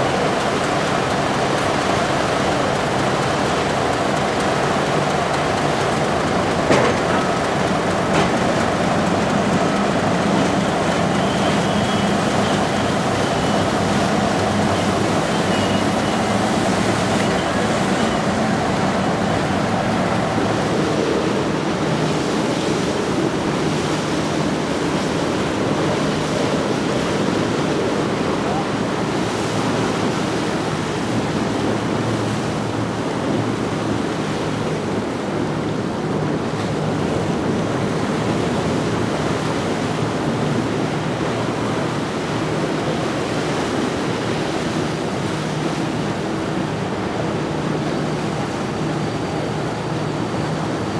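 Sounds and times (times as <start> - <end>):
boat engines humming: 0.0 - 50.9
waves rushing: 0.0 - 50.9.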